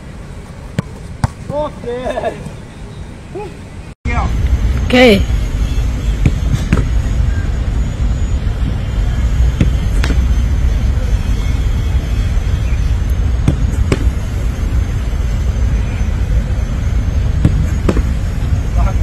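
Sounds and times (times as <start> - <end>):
steady low rumble: 3.8 - 19.0.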